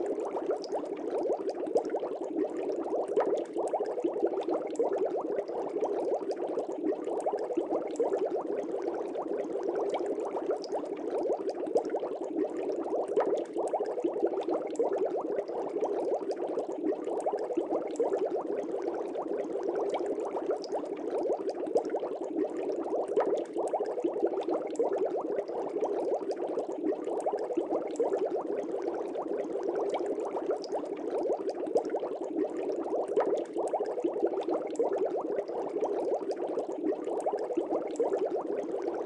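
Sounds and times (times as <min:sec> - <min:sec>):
water bubbling: 0:00.0 - 0:39.0.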